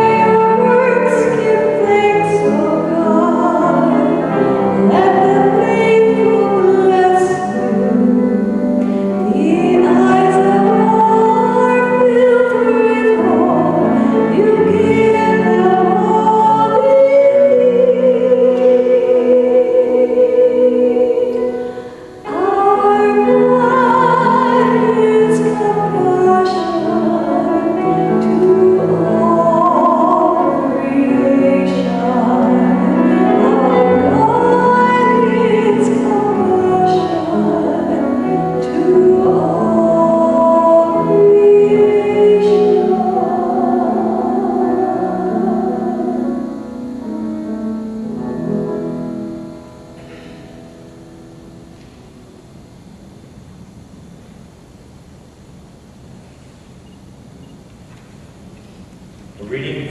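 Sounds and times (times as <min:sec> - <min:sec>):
person singing slow song: 0:00.0 - 0:52.0
musical accompaniment: 0:00.0 - 0:54.7.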